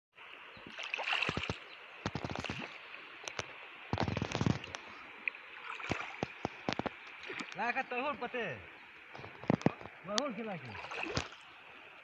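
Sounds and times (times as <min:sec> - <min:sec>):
paddle splashing in river water: 0:00.2 - 0:12.0.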